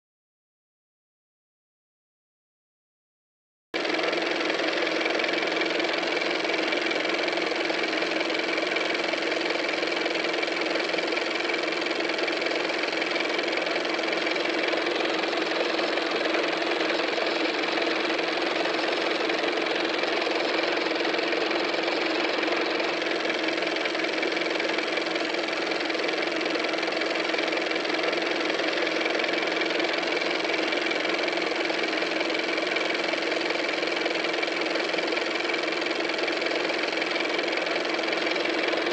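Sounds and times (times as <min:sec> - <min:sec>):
machine hum and hiss: 0:03.8 - 0:38.9.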